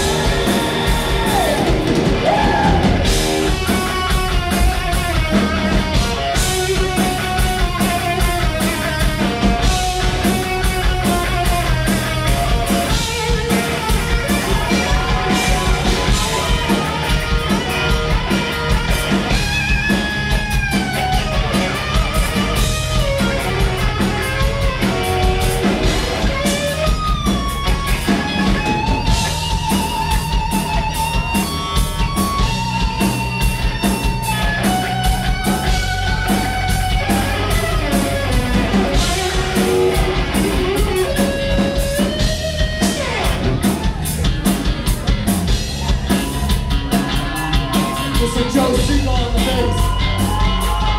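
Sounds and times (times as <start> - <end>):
electric guitar lead bending notes: 0.0 - 50.9
live rock band playing: 0.0 - 50.9.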